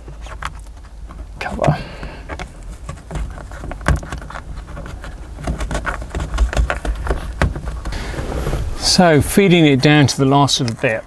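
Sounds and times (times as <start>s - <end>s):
cable scuffing on car trim: 0.0s - 8.9s.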